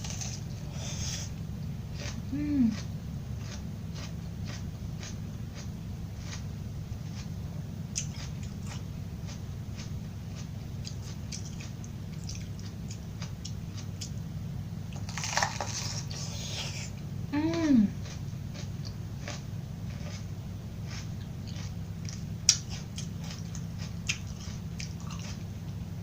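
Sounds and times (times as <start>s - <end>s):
chewing crunchy vegetables: 0.0s - 26.0s
steady low hum: 0.0s - 26.0s.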